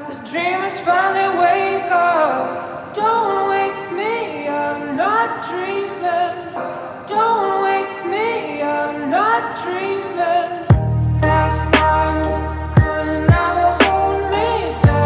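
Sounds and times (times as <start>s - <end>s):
pop music with woman singing: 0.0s - 15.0s.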